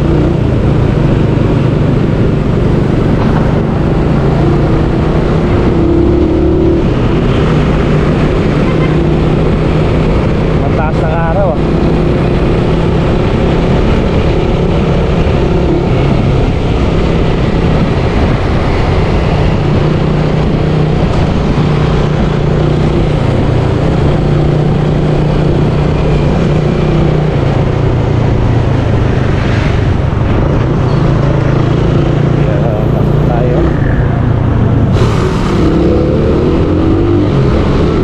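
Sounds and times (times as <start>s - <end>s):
motorcycle engine cruising: 0.0s - 38.0s
wind and road noise: 0.0s - 38.0s.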